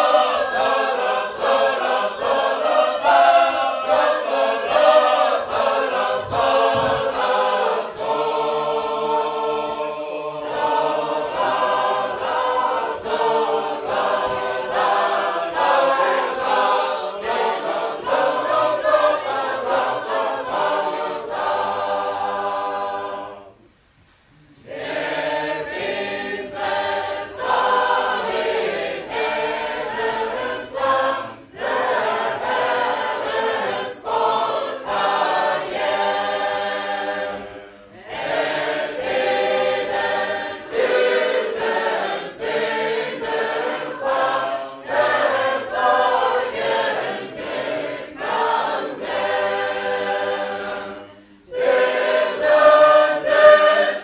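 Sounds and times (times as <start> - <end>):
group singing a hymn a cappella: 0.0 - 54.0.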